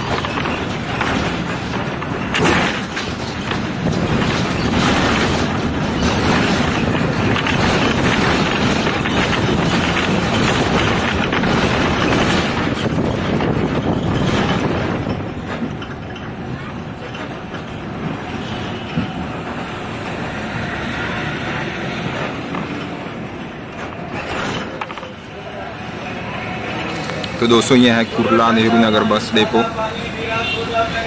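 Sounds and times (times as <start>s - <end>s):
bus body and windows rattling: 0.0s - 31.0s
bus engine: 0.0s - 31.0s
bus jolt: 0.0s - 31.0s.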